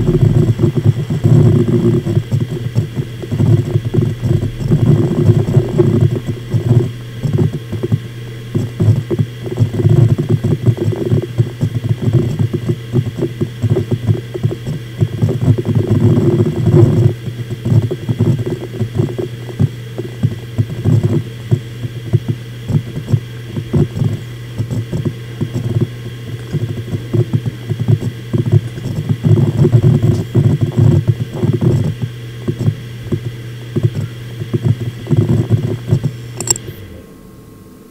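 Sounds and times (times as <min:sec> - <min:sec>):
hard drive clicking and chattering: 0:00.0 - 0:37.0
hard drive spindle hum: 0:00.0 - 0:37.9.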